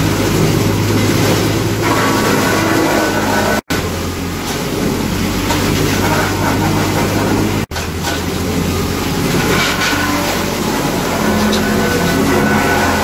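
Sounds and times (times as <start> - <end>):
tractor engine hum: 0.0 - 13.0
wood crusher running: 0.0 - 13.0.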